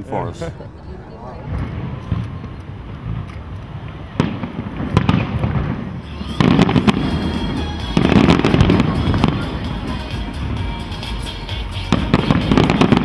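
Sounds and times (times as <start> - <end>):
fireworks bursting: 1.5 - 13.0
fireworks crackling: 1.5 - 13.0.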